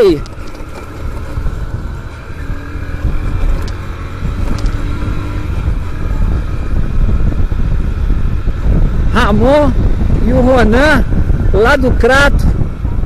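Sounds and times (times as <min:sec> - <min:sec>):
motorcycle engine running: 0:00.0 - 0:13.0
wind rumbling on microphone: 0:00.0 - 0:13.0.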